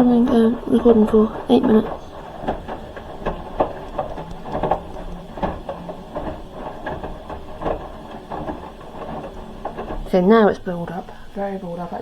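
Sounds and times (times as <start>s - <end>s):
laundry tumbling thuds: 0.0s - 12.0s
washing machine motor humming: 0.0s - 12.0s.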